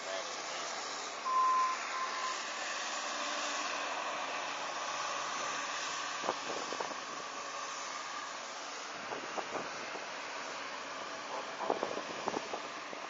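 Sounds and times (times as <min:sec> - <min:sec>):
loader engine hissing drone: 0:00.0 - 0:13.0.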